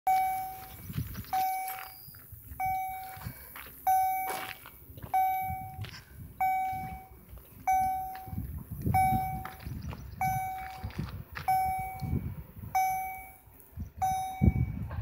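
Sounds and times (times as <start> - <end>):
level crossing warning bell: 0.1 - 2.0, 2.6 - 9.6, 10.2 - 12.2, 12.8 - 14.8.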